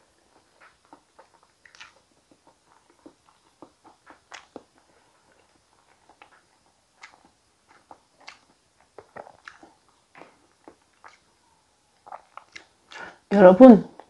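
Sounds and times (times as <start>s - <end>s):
wet chewing mouth clicks: 0.3s - 13.2s.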